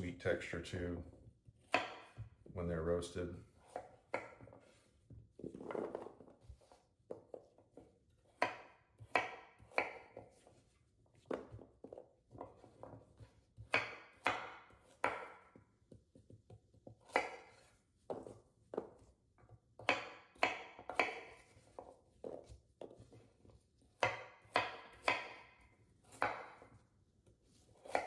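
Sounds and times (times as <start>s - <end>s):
knife chopping carrots on wood: 1.0s - 2.6s, 3.6s - 5.4s, 6.5s - 10.6s, 11.2s - 28.0s.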